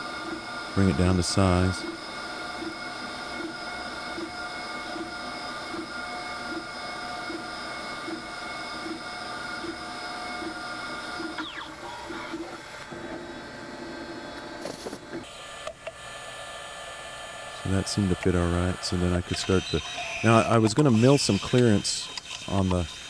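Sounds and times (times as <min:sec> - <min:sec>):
machine whine with pulse: 0:00.0 - 0:23.0.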